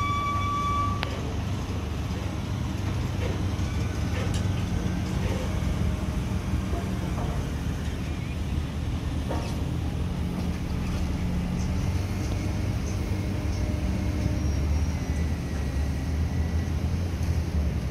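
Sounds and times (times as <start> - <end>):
diesel truck engine rumbling: 0.0 - 17.9.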